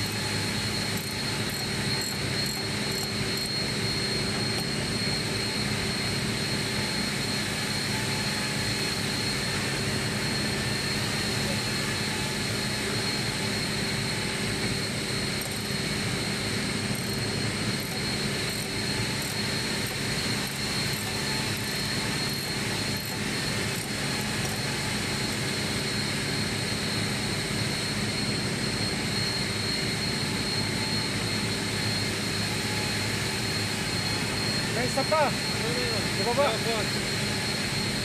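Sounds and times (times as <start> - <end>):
heavy machinery droning: 0.0 - 38.0
thin high whine: 0.0 - 38.0.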